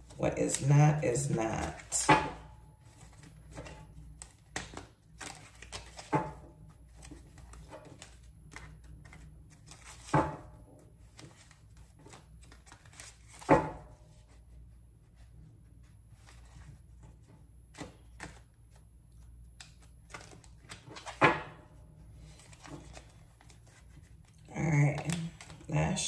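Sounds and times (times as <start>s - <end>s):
cards being shuffled: 0.0s - 2.1s, 2.8s - 10.2s, 10.9s - 14.5s, 15.8s - 26.0s.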